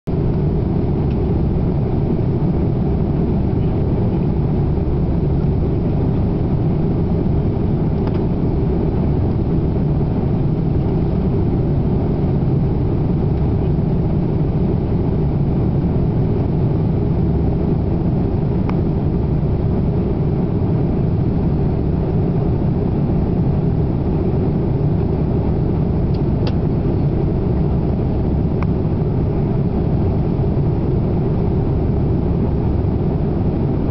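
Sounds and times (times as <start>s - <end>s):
airplane cabin noise: 0.1s - 33.9s.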